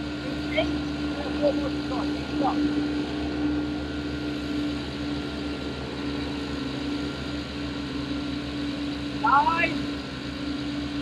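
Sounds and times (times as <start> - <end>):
fuel pump humming: 0.0 - 11.0.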